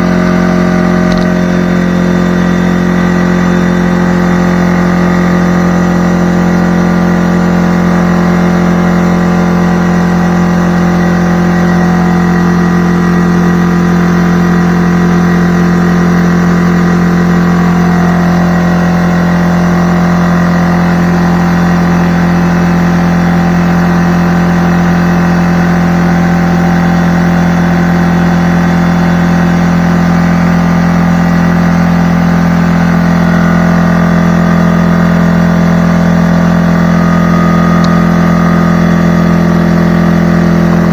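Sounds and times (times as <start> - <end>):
air compressor humming: 0.0 - 40.9.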